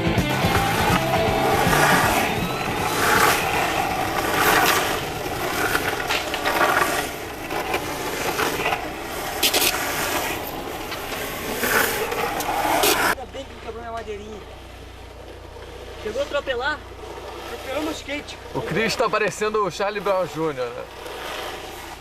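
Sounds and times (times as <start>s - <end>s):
skateboard rolling on asphalt: 0.0s - 22.0s.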